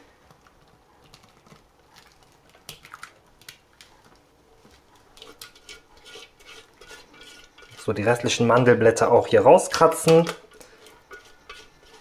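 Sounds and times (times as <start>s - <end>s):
thick mixture pattering onto cake: 0.0s - 12.0s.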